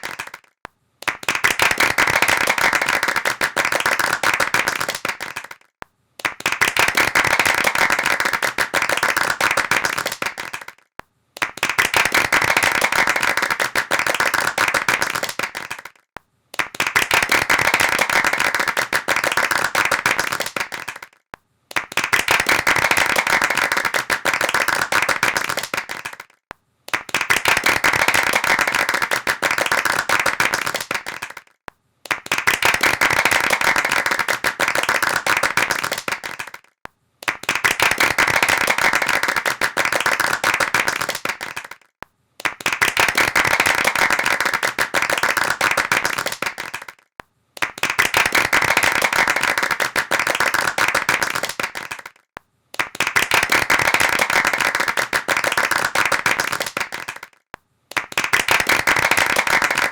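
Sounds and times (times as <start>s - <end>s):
hands clapping rapidly: 0.0s - 59.9s.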